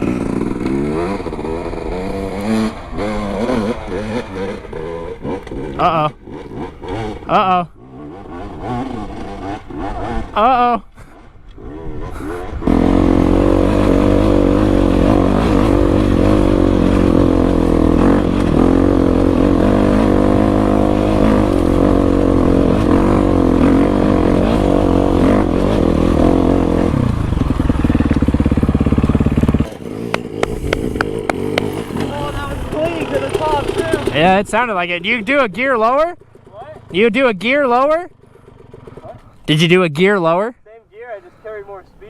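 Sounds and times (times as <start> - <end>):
dirt bike engine revving: 0.0 - 40.6.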